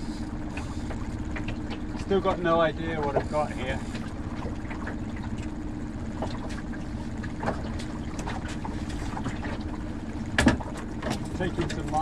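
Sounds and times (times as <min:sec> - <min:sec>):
outboard motor running: 0:00.0 - 0:12.0
water around hull: 0:00.0 - 0:12.0
wind: 0:00.0 - 0:12.0.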